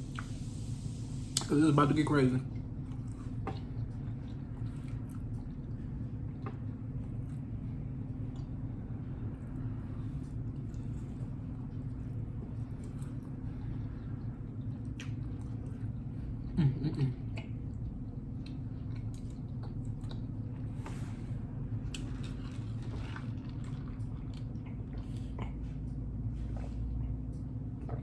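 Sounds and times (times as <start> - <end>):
steady low hum: 0.0 - 28.0
person chewing and eating: 2.5 - 9.5, 10.1 - 28.0.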